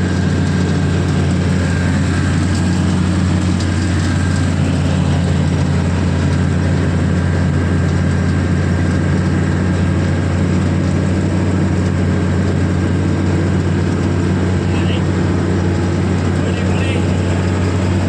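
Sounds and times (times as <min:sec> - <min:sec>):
diesel engine humming: 0:00.0 - 0:18.0.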